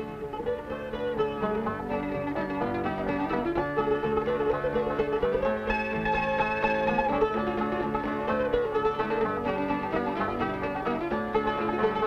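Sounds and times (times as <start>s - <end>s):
bluegrass string music: 0.0s - 12.0s.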